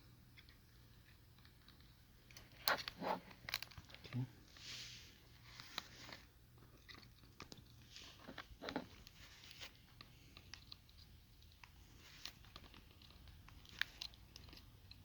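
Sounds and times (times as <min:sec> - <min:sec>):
plastic clicks and crackles: 0:00.3 - 0:04.2, 0:05.6 - 0:15.0.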